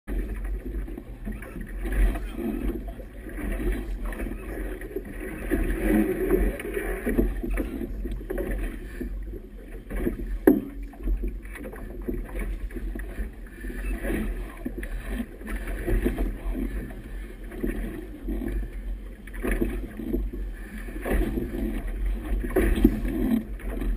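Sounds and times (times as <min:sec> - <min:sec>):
water splashing against boat hull: 0:00.1 - 0:23.9.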